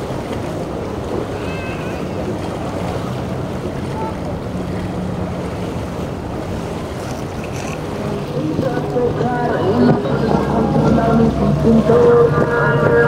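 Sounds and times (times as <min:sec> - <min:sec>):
boat engine running: 0:00.0 - 0:13.0
waves washing: 0:00.0 - 0:13.0
wind buffeting microphone: 0:00.0 - 0:13.0.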